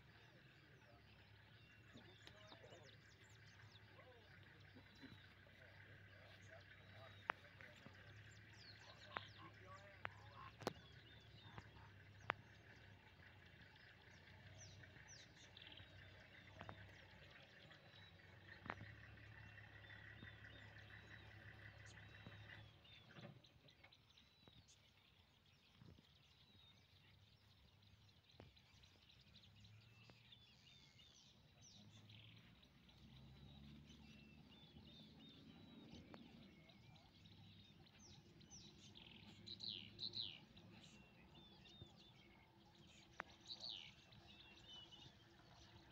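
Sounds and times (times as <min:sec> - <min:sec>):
faint bird chirps: 0:00.0 - 0:45.9.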